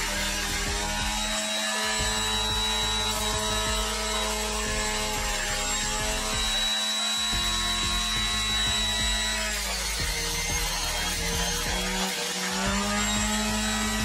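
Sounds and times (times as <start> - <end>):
blade grinding through celery: 0.0 - 14.0
juicer motor whine: 0.0 - 14.0.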